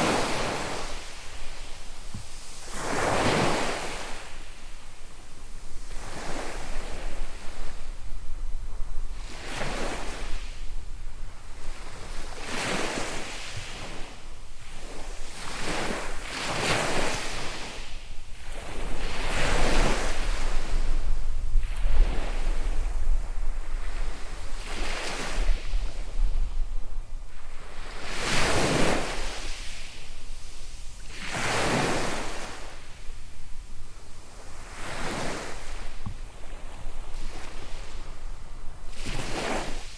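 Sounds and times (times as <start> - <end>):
small waves breaking on beach: 0.0 - 39.9
wind rumble on microphone: 0.0 - 39.9.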